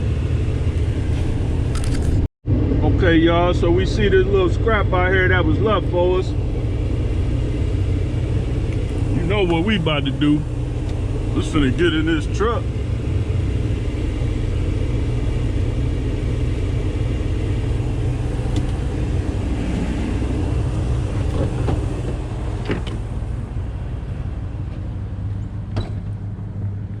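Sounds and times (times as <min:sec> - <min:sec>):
pickup truck engine idling: 0:00.0 - 0:27.0.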